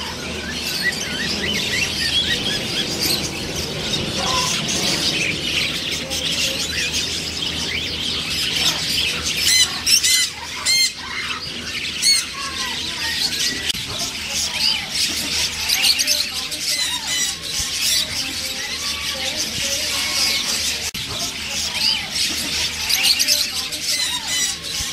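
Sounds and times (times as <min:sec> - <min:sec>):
macaws squawking: 0:00.0 - 0:24.9.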